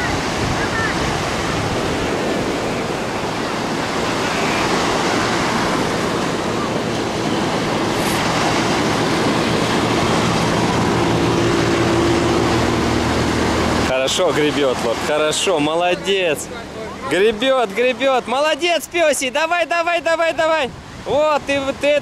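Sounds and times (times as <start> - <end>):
surf breaking and washing: 0.0 - 22.0.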